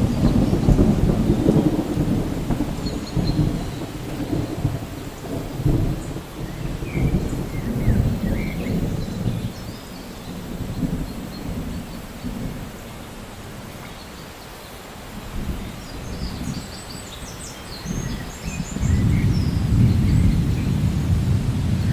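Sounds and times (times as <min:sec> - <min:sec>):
thunder rumble: 0:00.0 - 0:13.7, 0:17.8 - 0:21.9
steady rain: 0:00.0 - 0:21.9.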